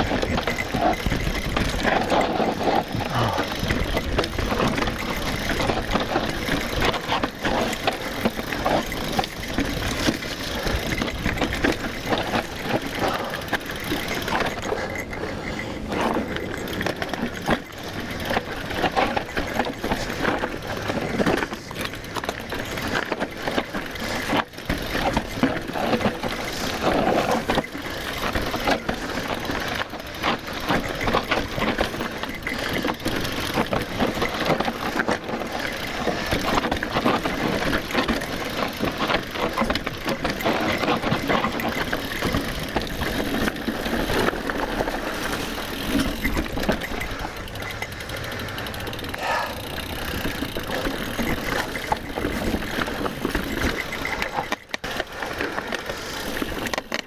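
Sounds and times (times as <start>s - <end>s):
bike rattling and knocking: 0.0s - 57.0s
bike tyre noise on dirt: 0.0s - 57.0s.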